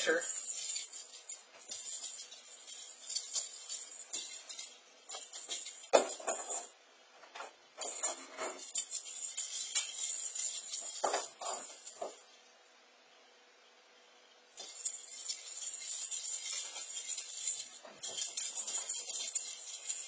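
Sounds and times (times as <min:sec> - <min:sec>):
jingle ball toy rattling: 0:00.0 - 0:06.8, 0:07.8 - 0:12.3, 0:14.6 - 0:20.0.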